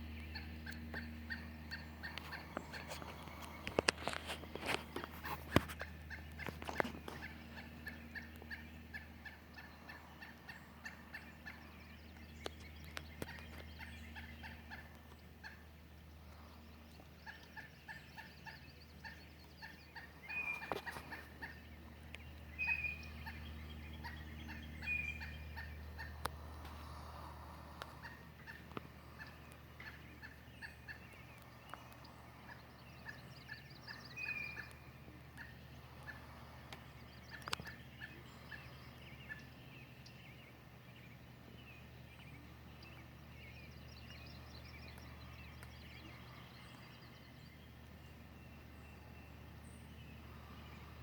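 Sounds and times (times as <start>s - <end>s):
woodpecker alarm calls: 0.0s - 51.0s.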